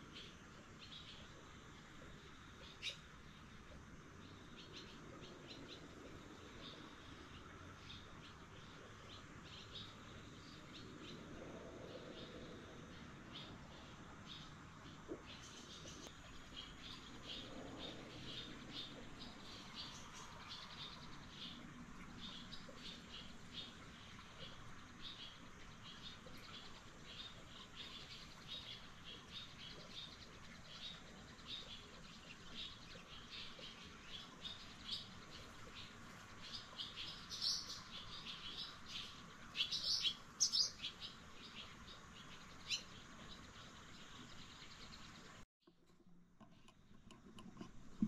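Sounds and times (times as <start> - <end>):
small birds chirping: 0.0 - 45.4.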